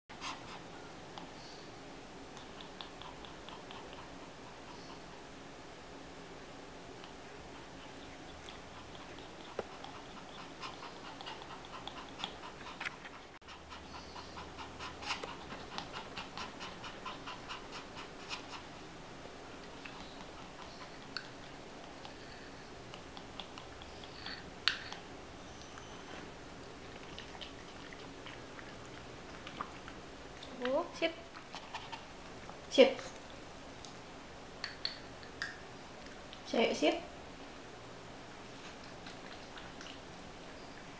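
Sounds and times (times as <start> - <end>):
small dog panting: 0.1 - 5.7, 6.9 - 33.4, 38.5 - 40.9.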